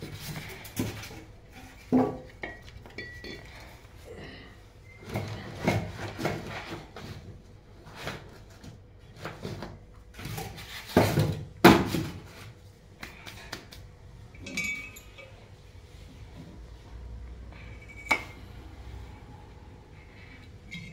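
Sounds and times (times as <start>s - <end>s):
knocks and rustles of handling: 0.0s - 4.0s, 5.0s - 18.5s.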